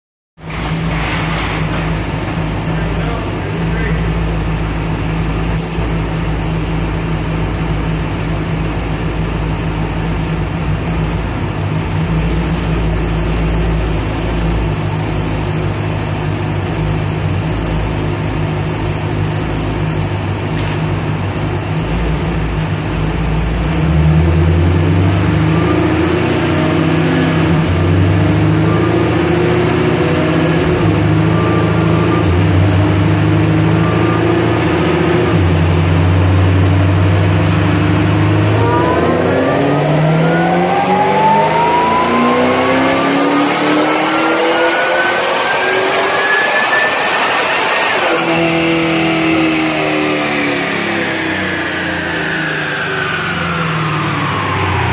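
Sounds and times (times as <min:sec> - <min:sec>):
supercharged car engine on dyno: 0:00.4 - 0:54.9.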